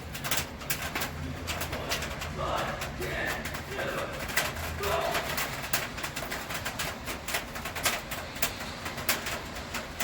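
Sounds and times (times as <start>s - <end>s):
rain falling: 0.0s - 10.0s
raindrops tapping: 0.0s - 10.0s.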